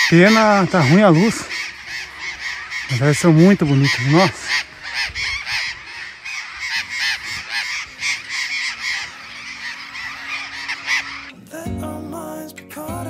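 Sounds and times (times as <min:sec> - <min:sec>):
parrots squawking: 0:00.0 - 0:11.4.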